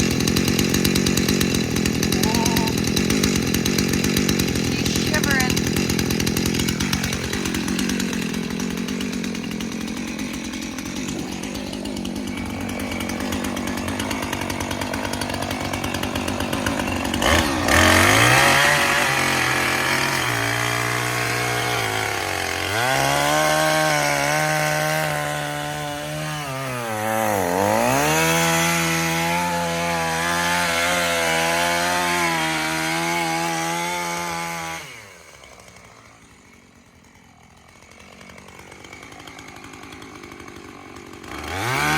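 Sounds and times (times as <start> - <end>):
chainsaw whining at full throttle: 0.0 - 41.9.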